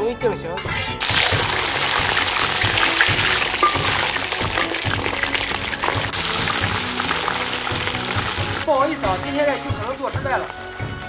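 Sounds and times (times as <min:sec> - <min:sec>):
background music: 0:00.0 - 0:11.0
hot oil sizzling and crackling: 0:01.0 - 0:11.0.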